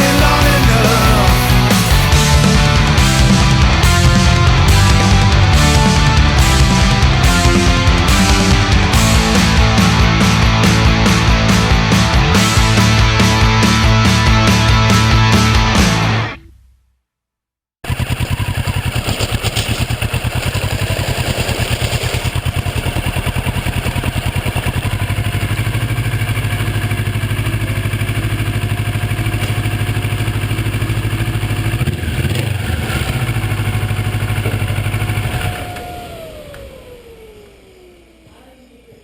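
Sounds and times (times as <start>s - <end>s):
motorcycle engine running: 0.0s - 16.8s, 17.8s - 39.0s.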